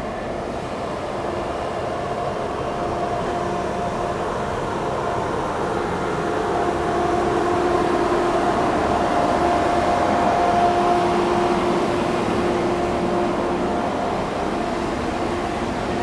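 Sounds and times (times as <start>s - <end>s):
ferry machinery hum: 0.0s - 16.0s
rushing noise: 0.0s - 16.0s.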